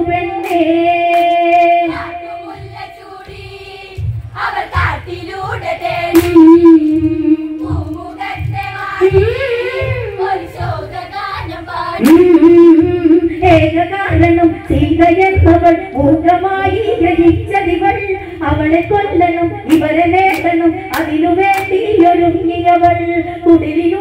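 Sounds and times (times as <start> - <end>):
steady low beat: 0.0 - 23.8
women singing together: 0.0 - 24.0.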